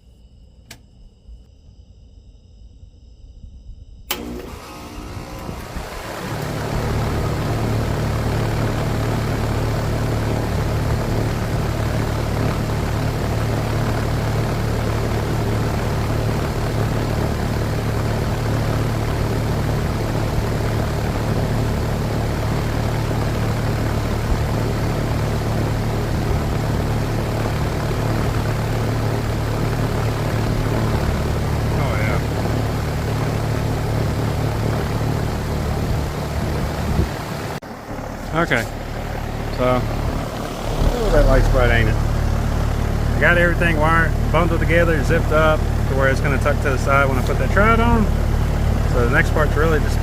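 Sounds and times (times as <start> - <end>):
air conditioner fan rushing: 3.0 - 50.0.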